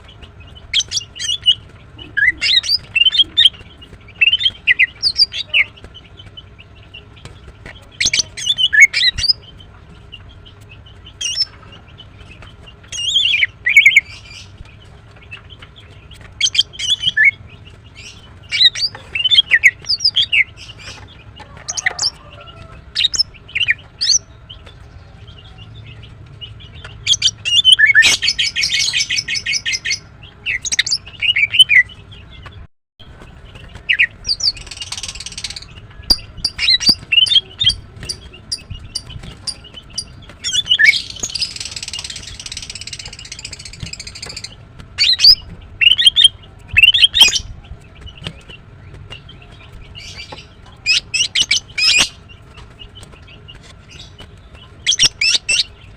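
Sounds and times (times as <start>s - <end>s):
bird chirping calls: 0.0s - 55.9s.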